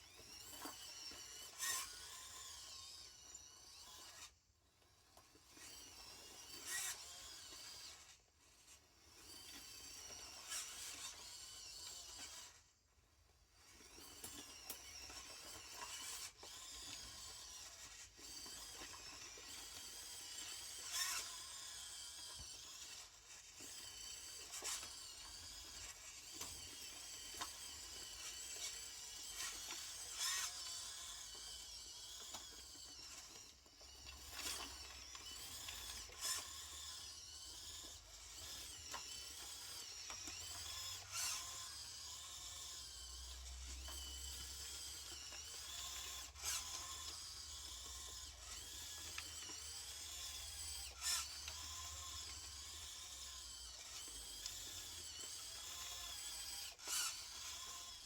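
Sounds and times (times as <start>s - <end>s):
small electric motor whining: 0.0s - 58.0s.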